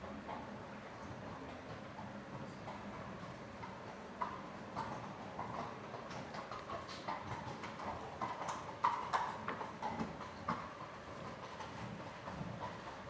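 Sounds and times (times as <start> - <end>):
horse hooves trotting on sand: 0.0 - 13.0.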